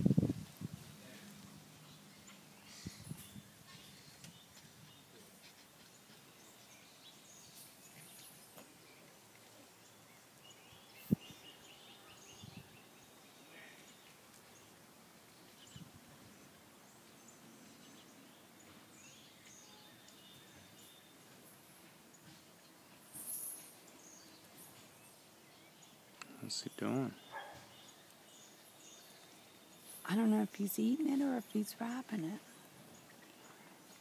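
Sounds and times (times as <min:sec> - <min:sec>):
faint outdoor background noise: 0:00.0 - 0:34.0.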